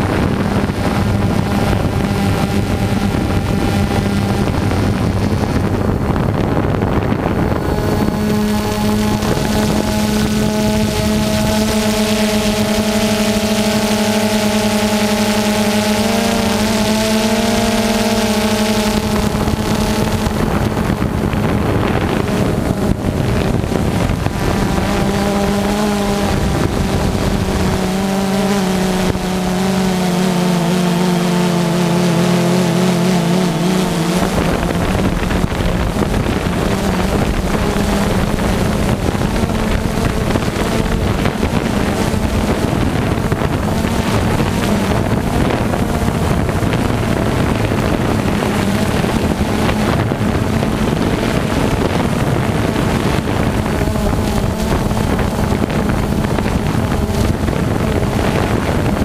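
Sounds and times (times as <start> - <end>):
drone motors whining: 0.0 - 59.0
wind rush on microphone: 0.0 - 59.0.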